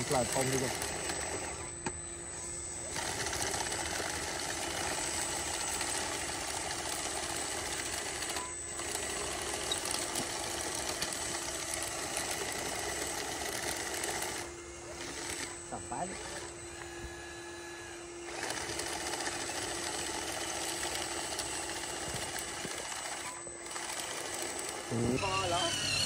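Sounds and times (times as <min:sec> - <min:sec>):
toy bulldozer motor whirring: 0:00.0 - 0:26.0.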